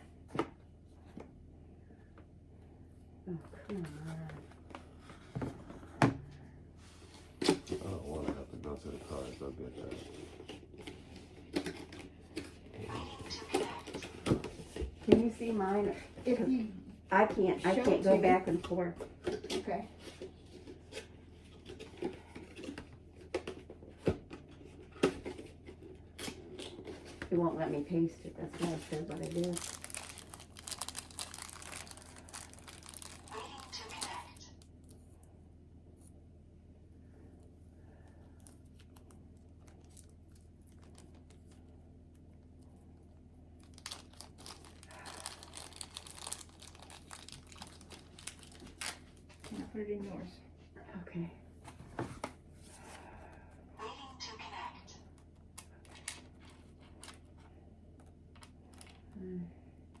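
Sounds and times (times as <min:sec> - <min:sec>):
low steady hum: 0:00.0 - 1:00.0
crinkling and rustling: 0:03.5 - 0:35.3, 0:37.4 - 0:50.3, 0:55.2 - 0:59.2.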